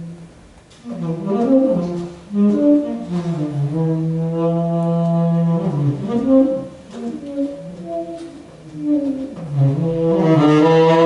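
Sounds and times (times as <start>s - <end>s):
saxophone playing: 0.0s - 11.0s.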